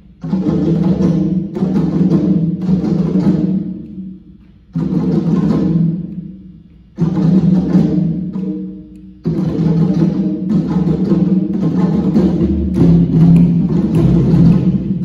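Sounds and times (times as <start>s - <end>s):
hand drums ensemble: 0.0s - 15.0s.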